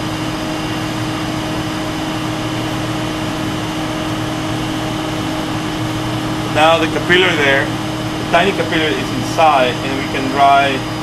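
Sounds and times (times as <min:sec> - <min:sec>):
mechanical hum with air rush: 0:00.0 - 0:11.0.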